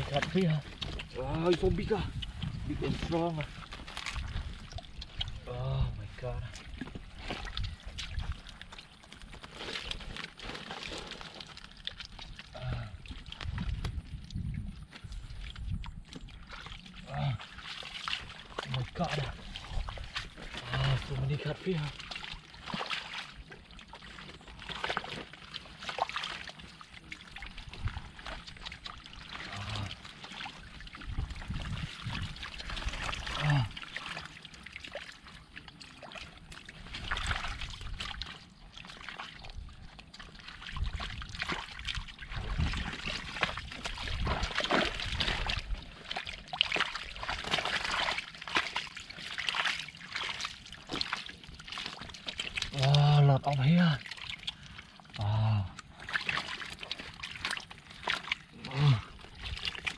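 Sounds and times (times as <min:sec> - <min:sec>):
fish thrashing in water: 0:00.0 - 0:05.5, 0:06.5 - 0:59.9
muddy water sloshing: 0:00.0 - 0:59.9.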